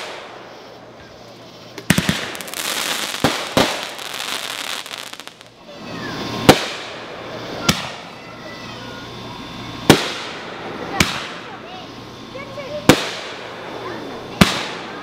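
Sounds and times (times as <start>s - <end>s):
fireworks bangs: 0.0s - 8.2s, 9.8s - 11.6s, 12.4s - 15.0s
fireworks crackling: 0.0s - 15.0s.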